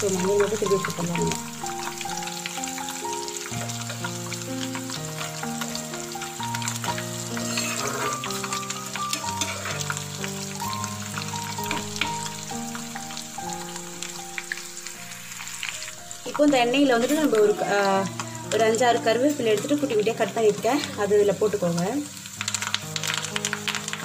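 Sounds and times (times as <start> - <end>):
eggs sizzling in hot oil: 0.0 - 24.0
soft background music: 0.0 - 24.0.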